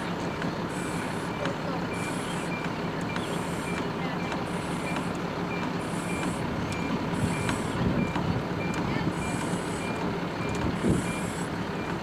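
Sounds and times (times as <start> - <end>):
engine idling: 0.0 - 12.0
reversing alarm beeping: 0.0 - 12.0.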